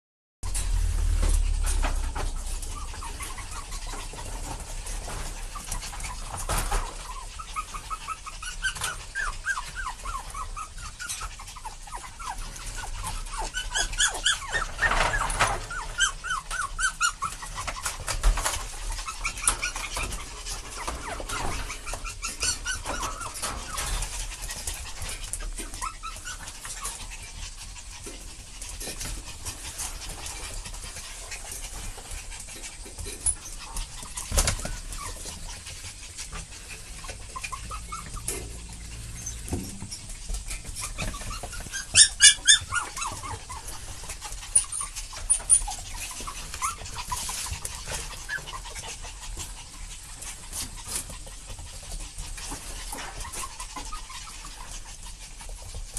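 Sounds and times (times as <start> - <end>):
dogs whining and yipping: 0.6 - 55.9.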